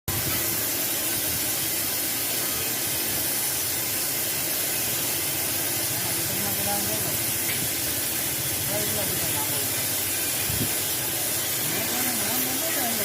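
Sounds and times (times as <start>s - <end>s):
cutting torch hissing: 0.1s - 13.0s.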